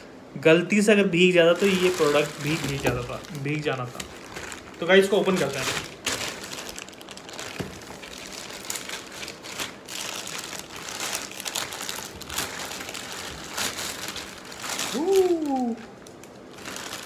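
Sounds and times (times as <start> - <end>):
plastic mailer bag crinkling: 1.2 - 17.0.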